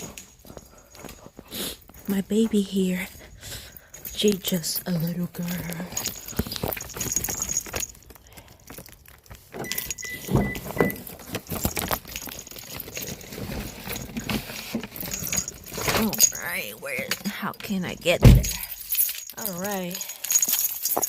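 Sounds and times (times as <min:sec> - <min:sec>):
keys jangling: 0:03.1 - 0:21.0
clicks and rattles: 0:03.9 - 0:21.0.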